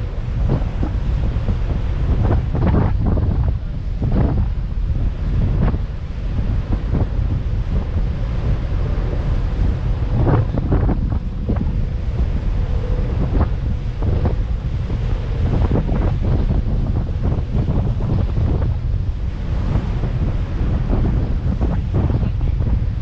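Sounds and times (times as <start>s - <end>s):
sea wash: 0.0s - 23.0s
strong wind buffeting microphone: 0.0s - 23.0s.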